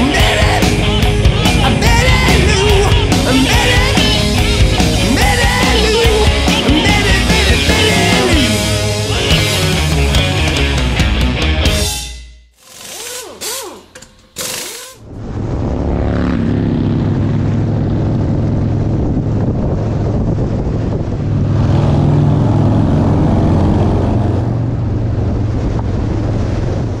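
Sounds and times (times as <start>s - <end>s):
motorcycle engines droning: 0.0s - 10.9s, 12.7s - 27.0s.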